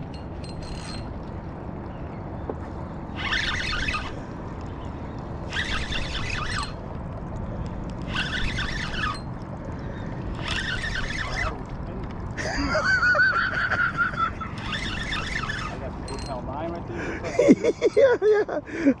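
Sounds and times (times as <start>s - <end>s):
fishing reel gears whirring: 0.0s - 1.5s, 3.0s - 18.2s.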